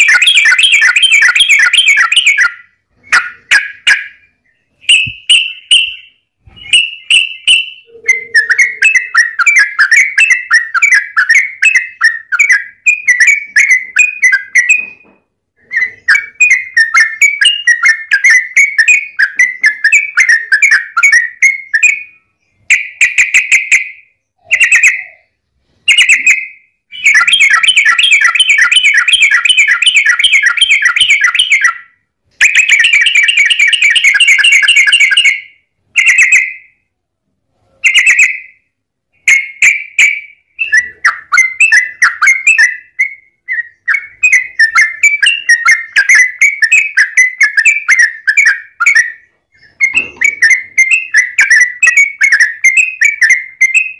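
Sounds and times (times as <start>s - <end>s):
bird chattering song: 0.0s - 36.9s, 37.8s - 53.9s.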